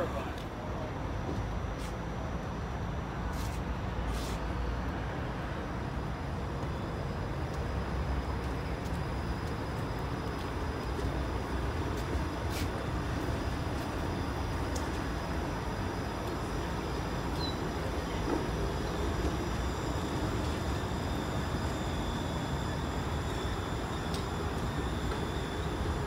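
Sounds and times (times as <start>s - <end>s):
streetcar rumbling past: 0.0s - 26.0s.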